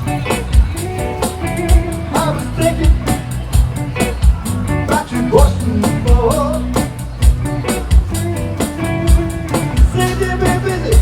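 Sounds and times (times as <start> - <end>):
drum kit beat: 0.0 - 11.0
guitar: 0.0 - 11.0.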